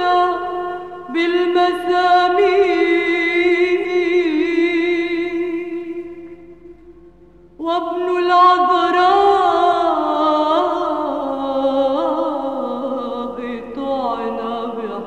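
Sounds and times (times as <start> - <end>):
person chanting slow melody: 0.0 - 6.7, 7.5 - 15.0.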